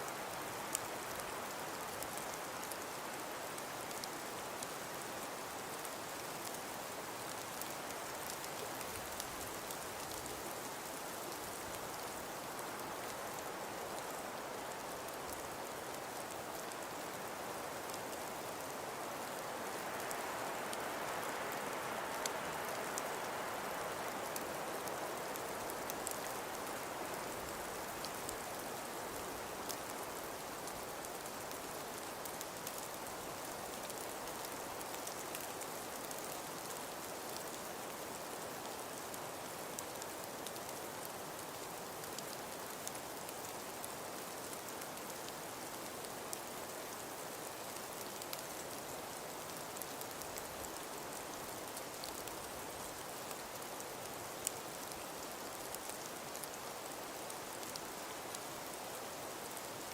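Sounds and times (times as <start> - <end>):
wind-blown snowfall hiss: 0.0 - 59.9
faint ticks: 0.7 - 14.4, 15.0 - 59.9.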